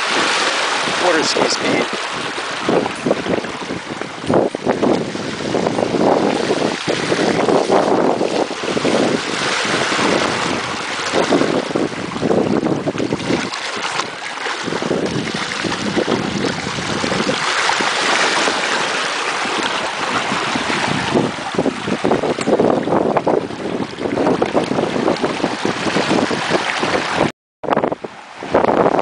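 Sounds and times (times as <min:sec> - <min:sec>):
water rushing along hull: 0:00.0 - 0:29.0
wind gusting on microphone: 0:00.0 - 0:29.0.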